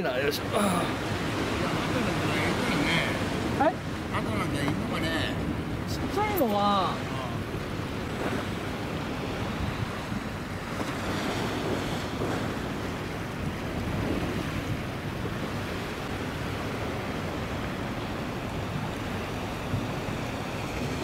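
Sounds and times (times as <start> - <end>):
sea water washing: 0.0 - 21.0
wind rushing over microphone: 1.1 - 21.0.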